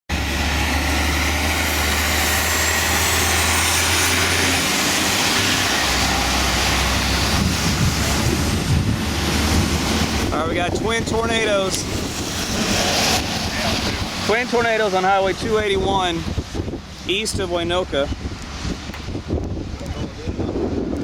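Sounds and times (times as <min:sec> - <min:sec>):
strong wind on microphone: 0:00.1 - 0:21.0.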